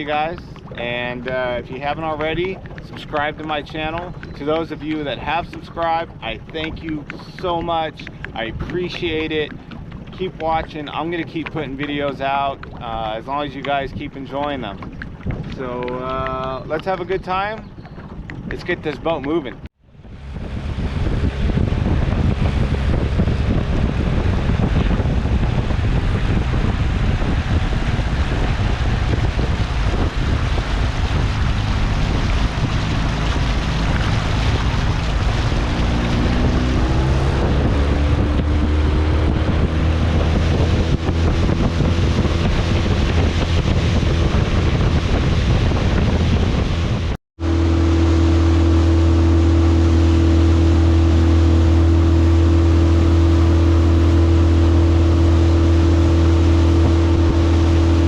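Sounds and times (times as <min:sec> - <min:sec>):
motorboat engine running: 0:00.0 - 0:58.0
water rushing past hull: 0:00.0 - 0:58.0
wind buffeting microphone: 0:00.0 - 0:58.0.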